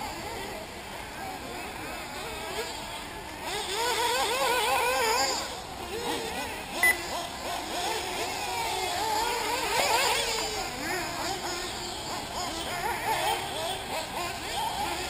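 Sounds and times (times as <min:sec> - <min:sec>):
rc buggy engines revving: 0:00.0 - 0:15.0.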